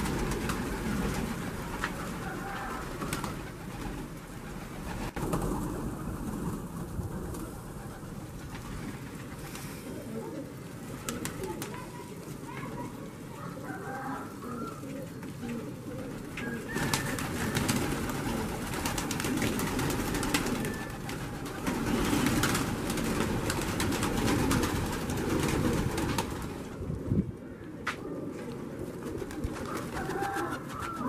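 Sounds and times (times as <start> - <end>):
wings flapping and clapping: 0.0 - 9.7, 10.8 - 12.9, 15.2 - 26.7, 27.8 - 31.0
pigeons cooing: 0.0 - 31.0.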